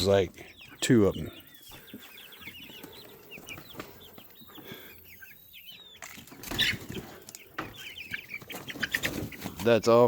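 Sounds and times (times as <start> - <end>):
baby chicks peeping: 0.0 - 10.0.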